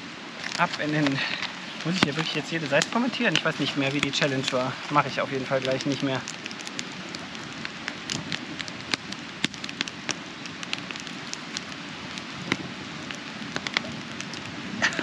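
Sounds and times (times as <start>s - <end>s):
campfire crackling: 0.0s - 15.0s
fire hiss: 0.0s - 15.0s
sharp pops of fire: 0.5s - 14.5s.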